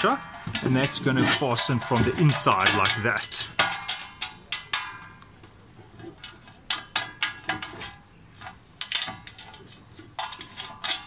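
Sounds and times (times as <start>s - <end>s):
metal fasteners clinking on steel: 0.0s - 11.0s.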